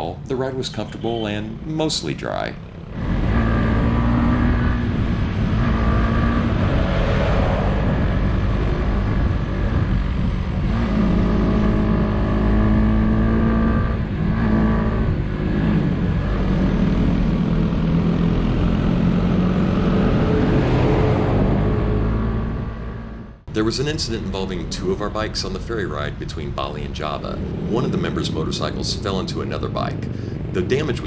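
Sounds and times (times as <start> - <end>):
motorcycle engine running: 0.0 - 20.6, 21.8 - 31.0.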